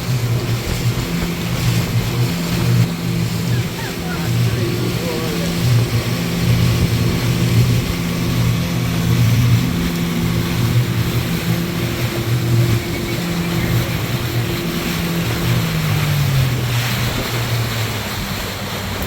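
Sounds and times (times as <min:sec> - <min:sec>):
motorboat engine humming: 0:00.0 - 0:19.0
water rushing: 0:00.0 - 0:19.0
wind: 0:00.0 - 0:19.0.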